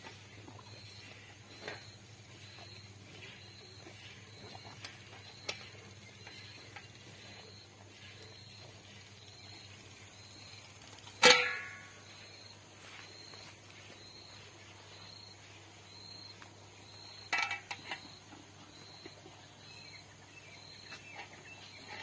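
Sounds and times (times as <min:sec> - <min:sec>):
cow eating wet feed: 0:00.0 - 0:11.2, 0:11.8 - 0:22.0
insect chirping: 0:00.0 - 0:22.0.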